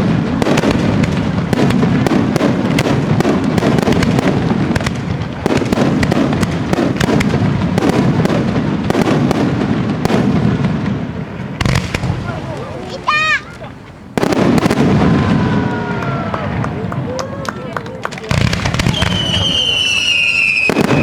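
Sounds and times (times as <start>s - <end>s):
fireworks crackling: 0.0s - 21.0s
low rumble of firework bursts: 0.0s - 21.0s.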